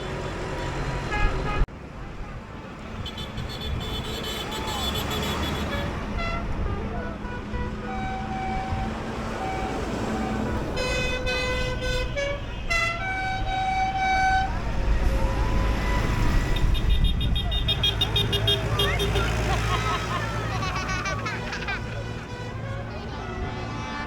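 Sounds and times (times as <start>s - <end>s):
truck horns tooting: 0.0s - 1.7s, 2.8s - 24.0s
low rumble of engines: 0.0s - 24.0s.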